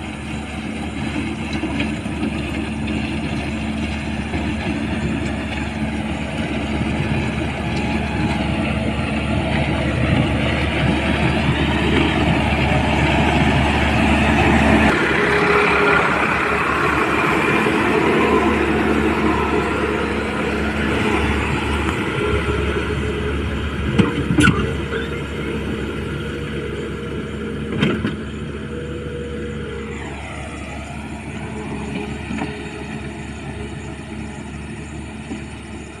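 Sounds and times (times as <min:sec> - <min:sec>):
heavy machine engine running: 0:00.0 - 0:36.0.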